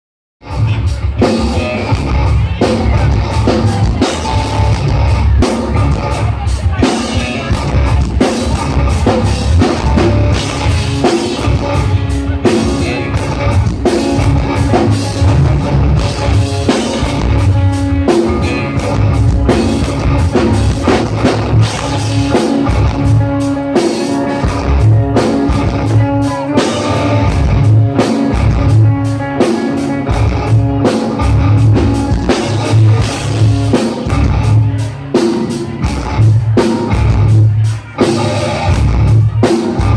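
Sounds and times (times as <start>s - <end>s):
live rock band playing: 0.4s - 39.9s.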